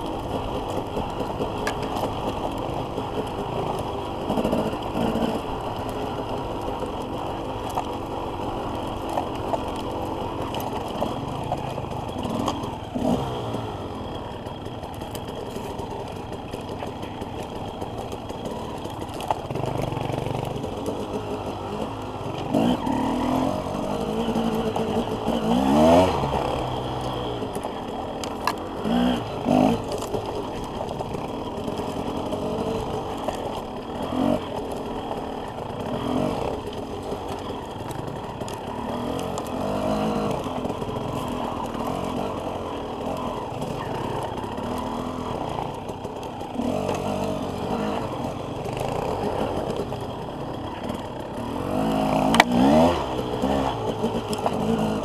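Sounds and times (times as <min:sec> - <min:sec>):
dirt bike engine revving: 0:00.0 - 0:14.9, 0:15.6 - 0:55.0.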